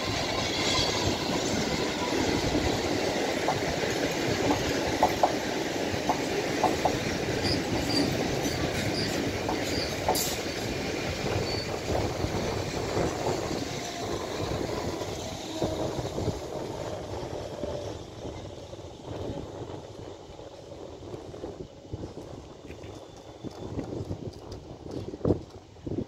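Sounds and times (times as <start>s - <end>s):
train wheels rumbling and clattering: 0.0s - 26.0s.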